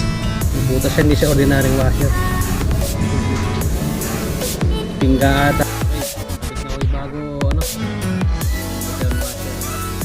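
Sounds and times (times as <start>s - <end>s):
deep bass notes sliding down: 0.0s - 8.1s
electronic dance music: 0.5s - 9.3s.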